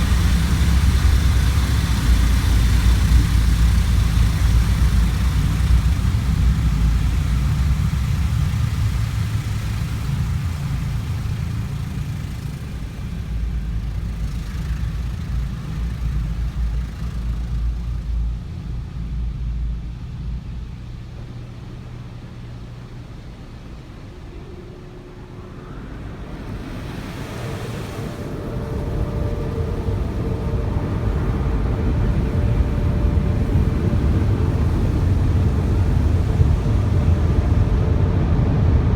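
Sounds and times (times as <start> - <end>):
car wash machinery rumbling: 0.0 - 38.9.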